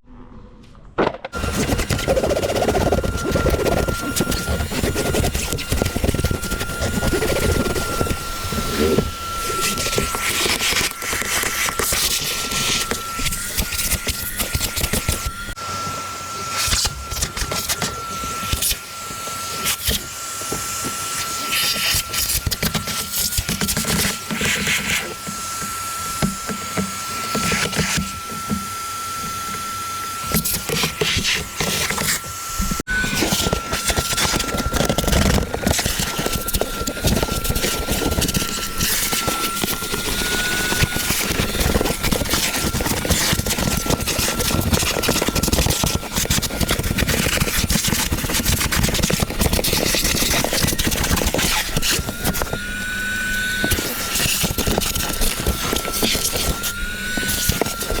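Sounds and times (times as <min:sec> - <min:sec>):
vacuum cleaner running: 0:01.3 - 0:58.0.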